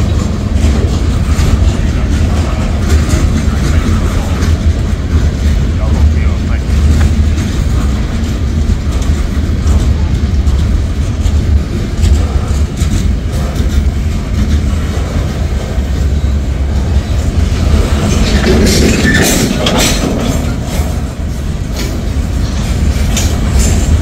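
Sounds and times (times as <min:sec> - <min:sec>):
train clicks and clanks: 0:00.0 - 0:24.0
train wheels rumbling on rail: 0:00.0 - 0:24.0.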